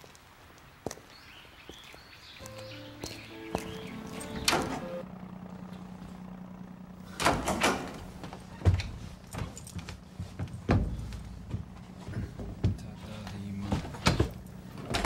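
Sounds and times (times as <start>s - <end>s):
steady low hum: 2.4s - 15.0s.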